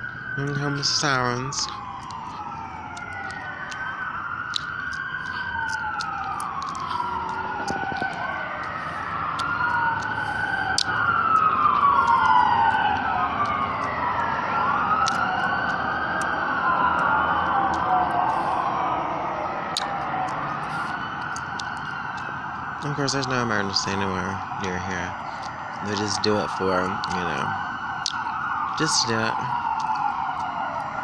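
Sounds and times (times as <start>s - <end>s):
ambulance siren wailing: 0.0s - 31.0s.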